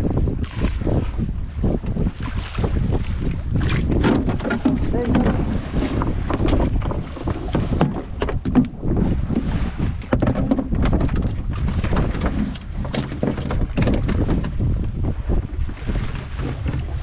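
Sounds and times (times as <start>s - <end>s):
water sounds: 0.0s - 17.0s
wind buffeting microphone: 0.0s - 17.0s
knocks and splashes: 0.4s - 17.0s.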